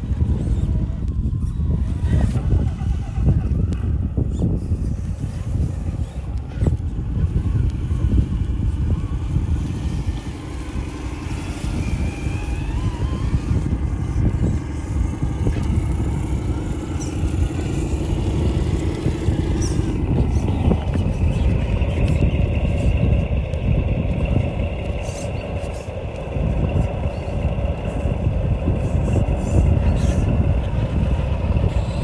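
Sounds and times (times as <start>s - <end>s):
electric motors whining: 0.0s - 32.0s
strong low rumble: 0.0s - 32.0s.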